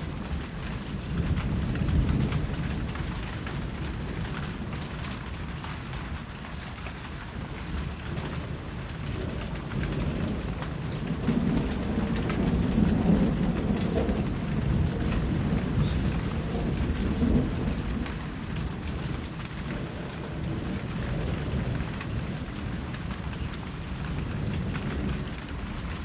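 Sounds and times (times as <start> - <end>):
low thunder rumbling: 0.0 - 26.0
steady rain falling: 0.0 - 26.0.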